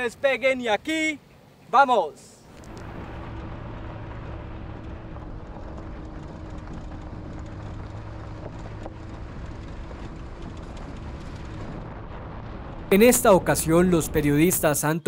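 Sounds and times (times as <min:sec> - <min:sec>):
tyres on gravel road: 0:02.4 - 0:14.9
vehicle engine running: 0:02.5 - 0:14.8.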